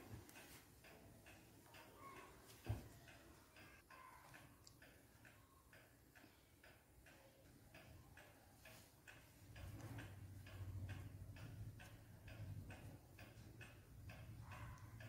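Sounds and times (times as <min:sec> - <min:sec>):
faint regular ticking: 0:00.0 - 0:15.0.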